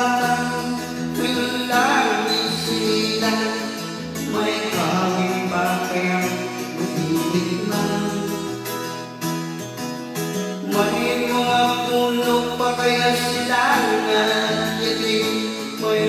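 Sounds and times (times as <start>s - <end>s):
man singing into microphone: 0.0s - 9.0s, 10.6s - 16.0s
backing music track: 0.0s - 16.0s.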